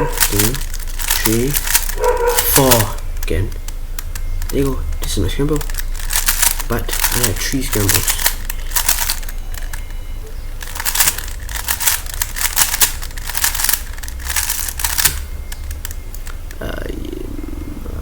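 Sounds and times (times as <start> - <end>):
rubik's cube clicking rattles: 0.0 - 16.6.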